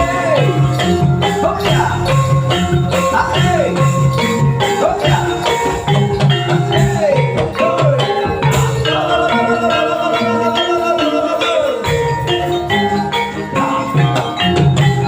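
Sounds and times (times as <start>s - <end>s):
drum pattern: 0.0s - 15.0s
jingling percussion: 0.0s - 15.0s
struck metallophones ringing: 0.0s - 15.0s.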